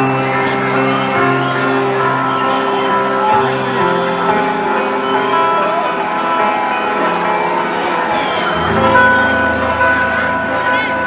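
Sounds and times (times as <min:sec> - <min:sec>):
band music with held chords: 0:00.0 - 0:11.0.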